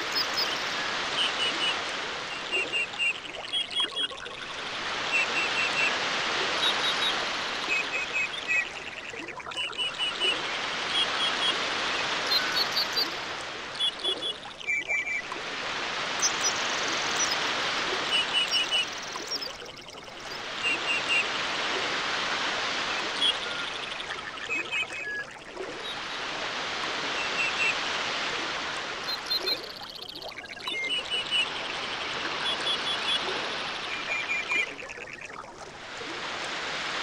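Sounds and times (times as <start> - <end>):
rushing water: 0.0 - 37.0.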